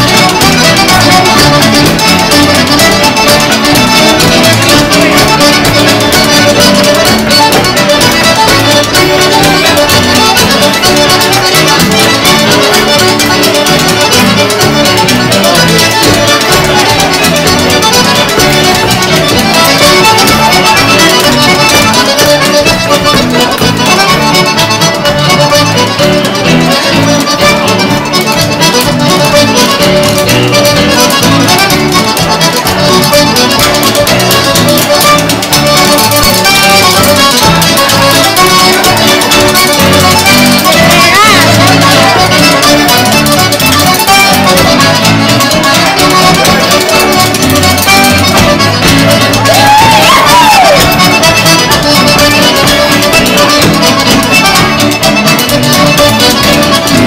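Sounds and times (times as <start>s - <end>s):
folk tune on accordions: 0.0s - 57.0s
spoons clacking rhythm: 0.0s - 57.0s.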